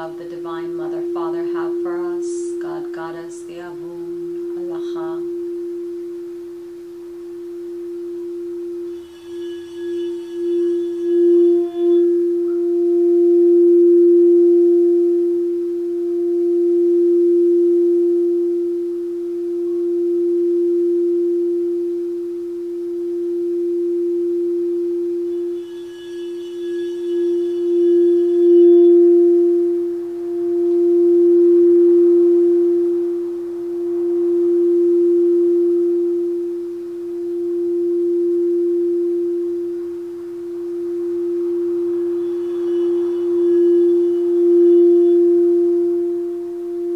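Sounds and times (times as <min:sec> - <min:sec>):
singing bowl tone: 0:00.0 - 0:46.9.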